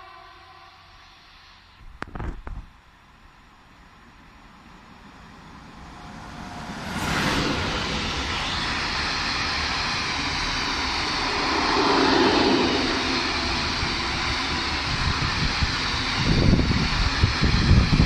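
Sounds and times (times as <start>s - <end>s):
train passing: 2.8s - 18.0s.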